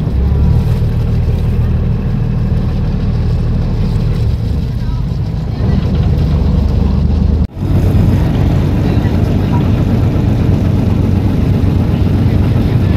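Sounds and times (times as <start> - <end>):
boat engine running: 0.0 - 12.9.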